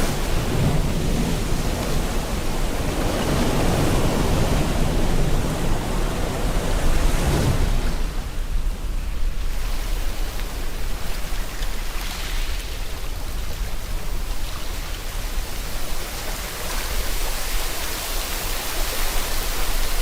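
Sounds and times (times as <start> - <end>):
ocean waves on shore: 0.0 - 20.0
steady rain: 0.0 - 20.0.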